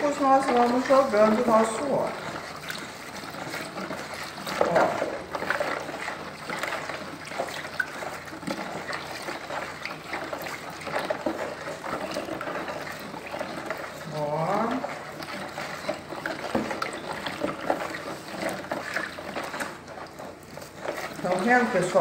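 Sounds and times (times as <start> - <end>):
oil trickling into liquid: 0.0 - 22.0
wooden spoon stirring and sloshing: 0.0 - 22.0.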